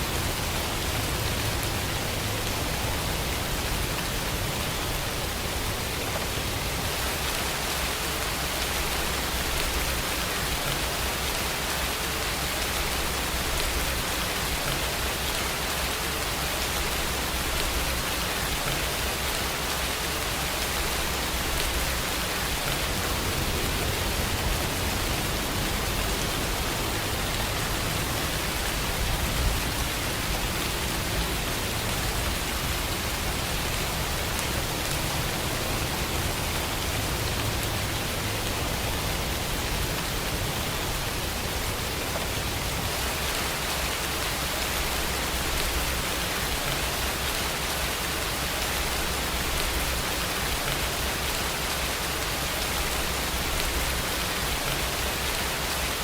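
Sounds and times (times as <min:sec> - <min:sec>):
steady dense rainfall: 0:00.0 - 0:56.0.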